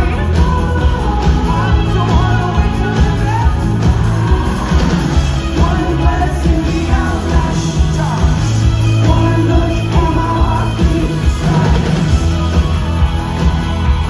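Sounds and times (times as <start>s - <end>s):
person singing: 0.0s - 13.7s
live rock band playing: 0.0s - 14.0s.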